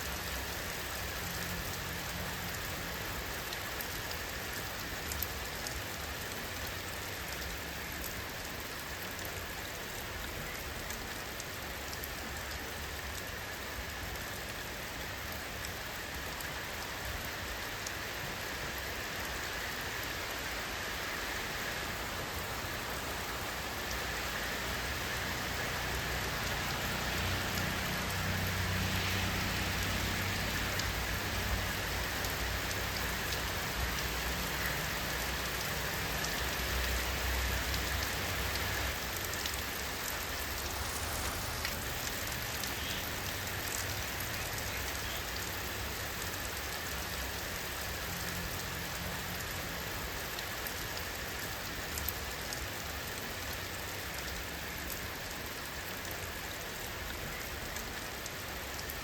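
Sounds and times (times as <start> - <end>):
raindrops ticking: 0.0 - 20.4, 22.0 - 59.0
steady rain falling: 0.0 - 59.0.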